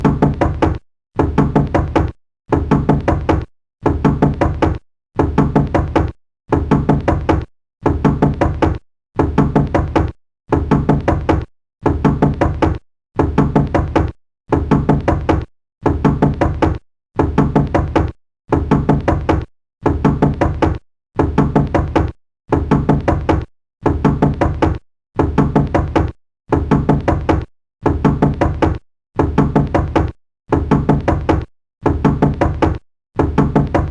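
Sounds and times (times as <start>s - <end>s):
knocking on a door: 0.0s - 33.9s.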